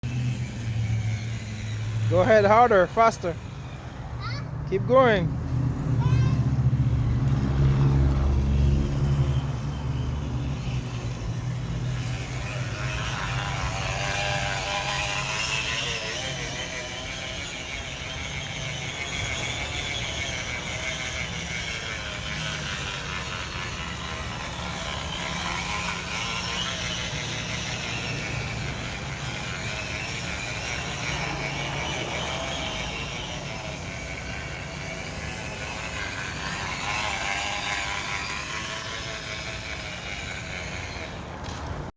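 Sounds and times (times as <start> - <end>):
bottle buzzing against bicycle spokes: 0.0 - 4.4, 5.0 - 41.9.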